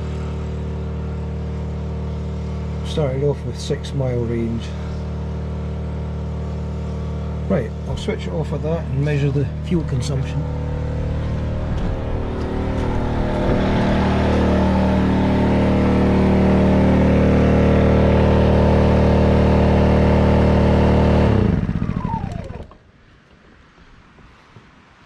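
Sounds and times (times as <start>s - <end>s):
generator engine running: 0.0s - 23.1s
generator falling whine: 0.0s - 24.3s.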